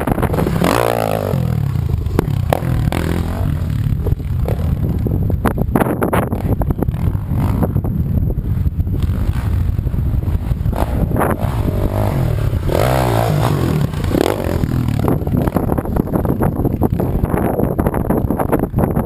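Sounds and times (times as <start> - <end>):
dirt bike engine revving: 0.0 - 17.5
wind rumble on microphone: 0.0 - 19.0.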